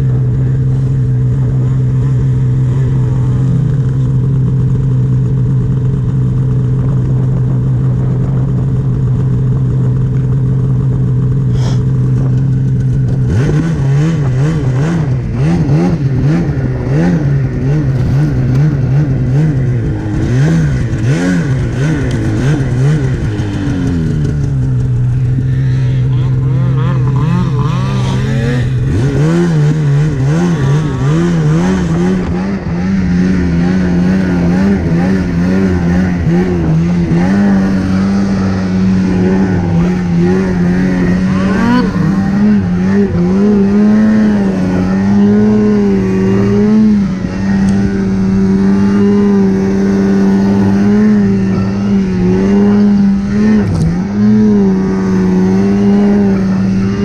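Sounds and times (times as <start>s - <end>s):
snowmobile engine under throttle: 0.0s - 57.0s.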